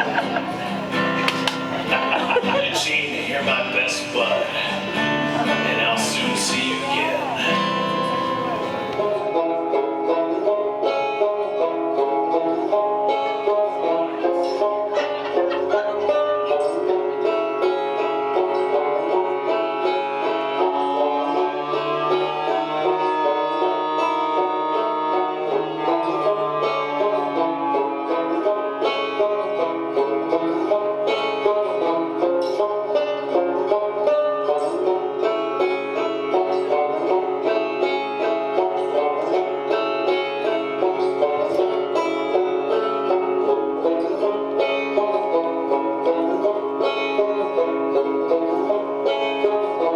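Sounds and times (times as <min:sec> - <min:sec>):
bluegrass banjo music: 0:00.0 - 0:49.9.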